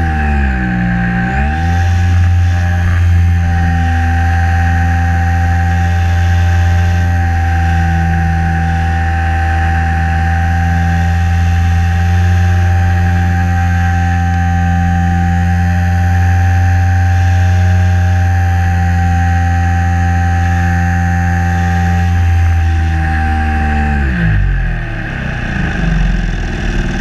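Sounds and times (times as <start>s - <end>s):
model plane motor humming and whining: 0.0s - 27.0s.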